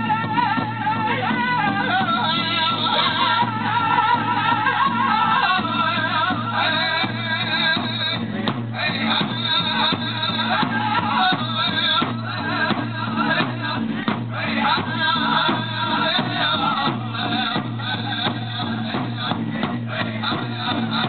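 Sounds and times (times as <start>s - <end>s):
big drum beating: 0.0s - 21.0s
group singing high wavering voices: 0.0s - 21.0s.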